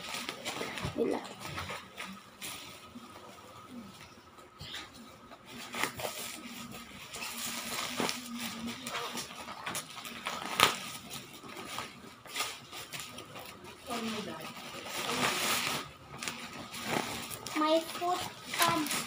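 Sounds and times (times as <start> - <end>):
plastic wrap rustling and crinkling: 0.0 - 19.0.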